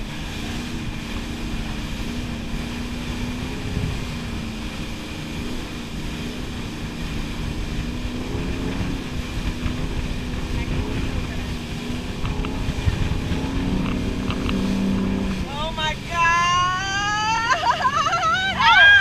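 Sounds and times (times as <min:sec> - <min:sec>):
wind on microphone: 0:00.0 - 0:16.1
boat engine droning: 0:00.0 - 0:19.0
rushing water: 0:00.0 - 0:19.0.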